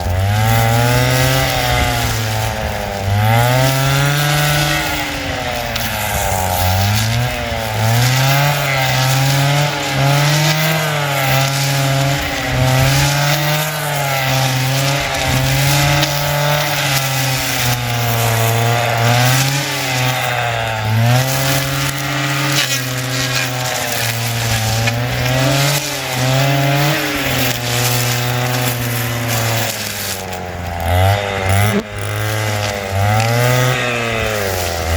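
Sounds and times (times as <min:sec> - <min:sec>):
brushcutter engine running: 0:00.0 - 0:34.9.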